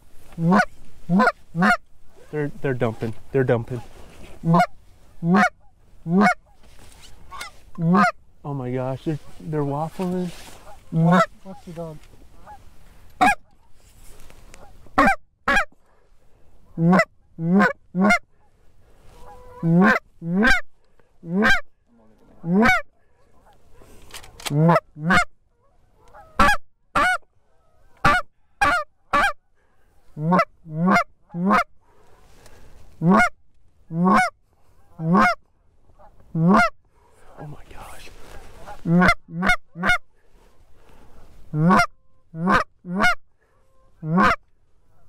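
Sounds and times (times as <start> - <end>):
goose call honks and clucks: 0.3 - 13.8, 14.5 - 15.8, 16.7 - 18.5, 19.1 - 29.5, 30.1 - 32.3, 33.0 - 40.1, 41.1 - 45.0.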